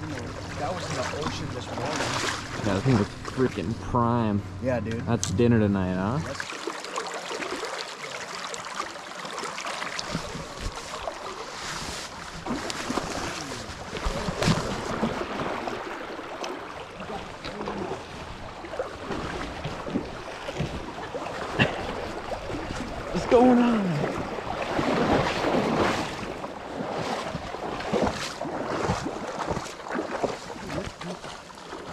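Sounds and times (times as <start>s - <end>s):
river current rushing: 6.3s - 31.9s.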